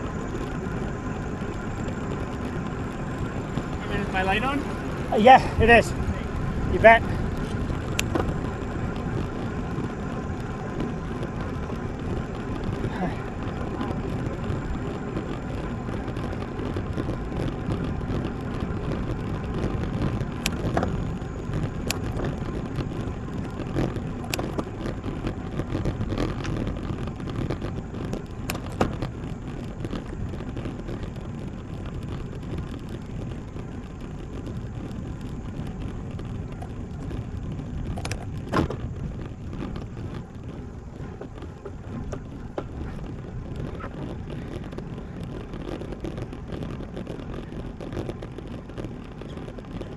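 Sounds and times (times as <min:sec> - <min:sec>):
tyres rolling on pavement: 0:00.0 - 0:49.9
wind rushing on microphone: 0:00.0 - 0:49.9.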